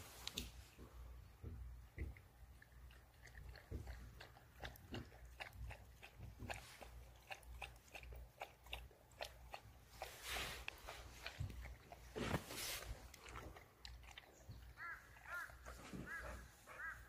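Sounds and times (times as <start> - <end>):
dog lapping water: 2.0 - 17.0.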